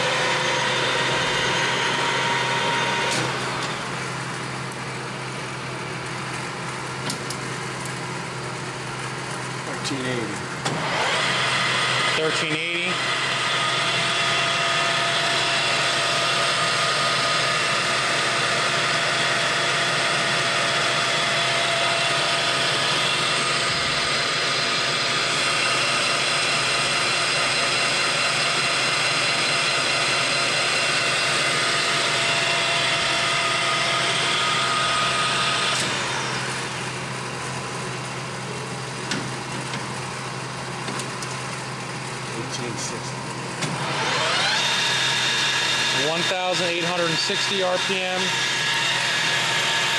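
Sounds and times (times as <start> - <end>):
lathe whining: 0.0 - 49.9.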